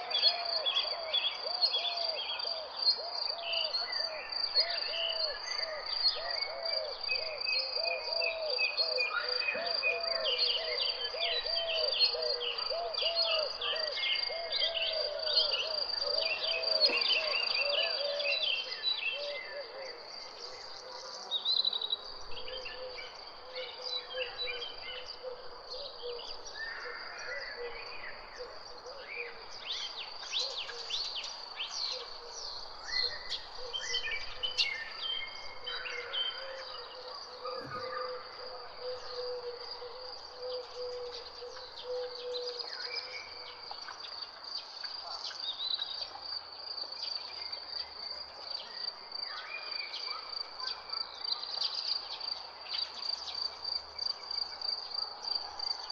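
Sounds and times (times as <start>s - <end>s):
birds chirping and singing: 0.0s - 46.1s.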